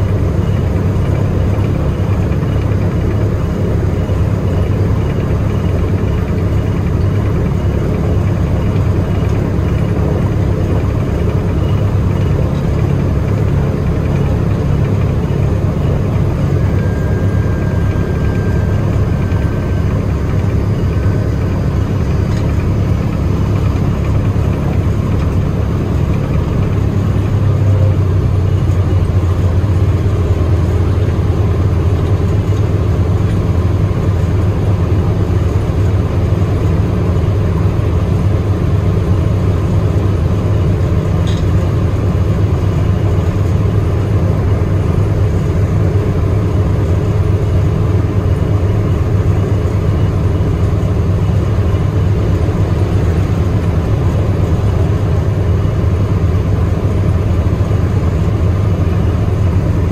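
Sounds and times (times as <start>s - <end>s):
radial aircraft engines rumbling: 0.0s - 59.9s.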